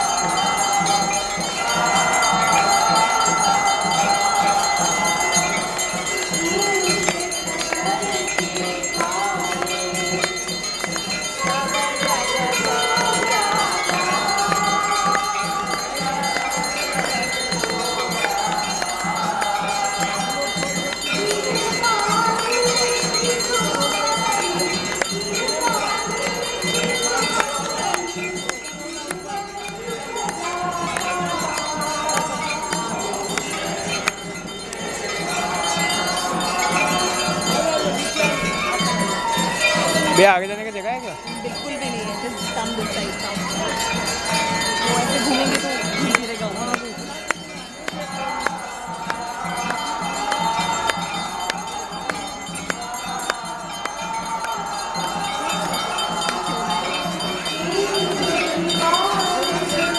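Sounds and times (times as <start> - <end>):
many voices singing a hymn: 0.0 - 59.9
temple bells clanging: 0.0 - 59.9.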